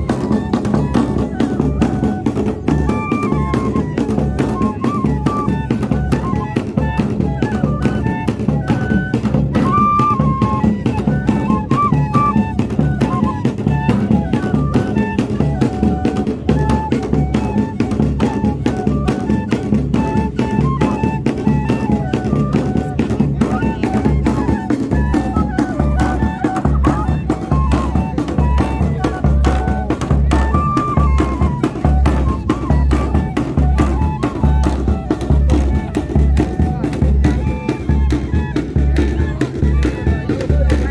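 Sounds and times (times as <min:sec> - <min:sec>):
bass drum and snare percussion: 0:00.0 - 0:40.9
cane fifes playing melody: 0:00.0 - 0:40.9.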